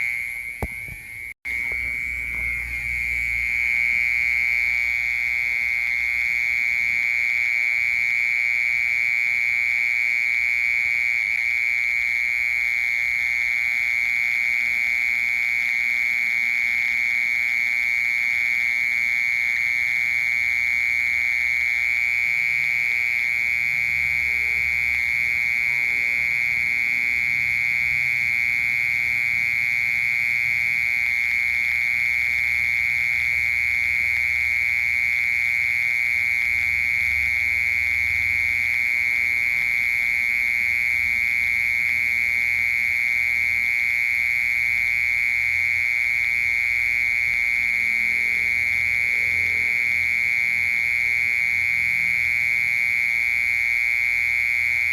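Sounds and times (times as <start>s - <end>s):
mole cricket trill: 0.0s - 54.9s.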